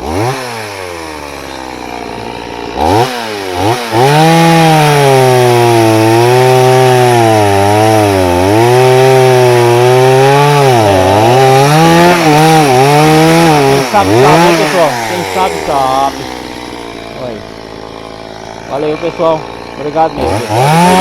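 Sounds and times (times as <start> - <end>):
chainsaw cutting wood: 0.0 - 21.0
chainsaw engine revving: 0.0 - 21.0.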